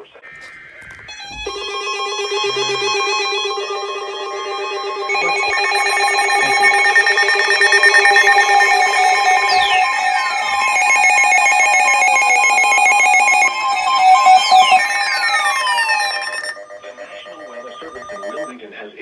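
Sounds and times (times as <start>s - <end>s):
electronic alert beeping and warbling: 1.1s - 18.6s
falling siren-like sweeps: 1.2s - 18.5s.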